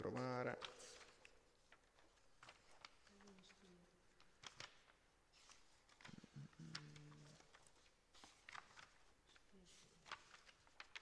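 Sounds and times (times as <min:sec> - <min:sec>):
paper sheets rustling: 0:00.0 - 0:11.0.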